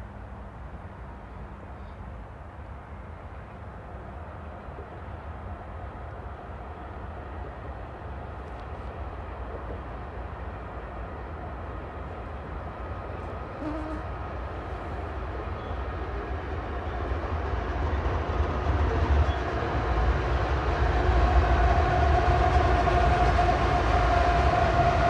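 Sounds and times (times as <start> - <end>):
distant train passing: 0.0 - 25.0.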